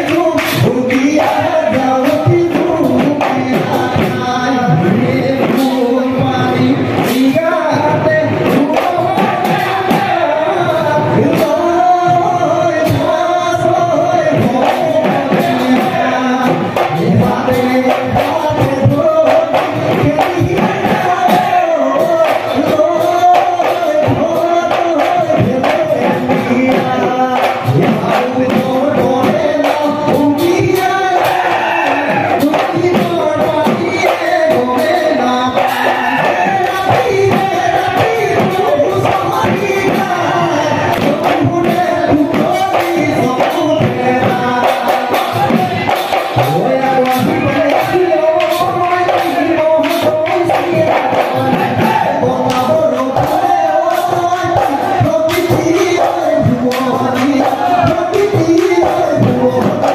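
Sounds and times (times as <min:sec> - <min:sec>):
dhol drums: 0:00.0 - 0:59.9
group chanting in chorus: 0:00.0 - 0:59.9.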